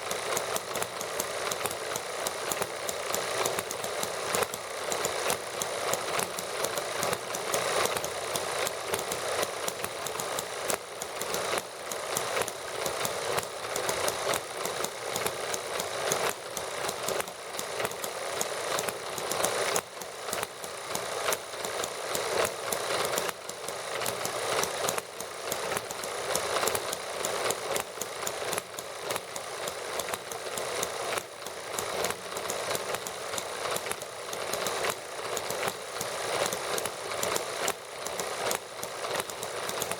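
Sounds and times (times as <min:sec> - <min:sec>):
model gasoline engines idling: 0:00.0 - 0:39.9.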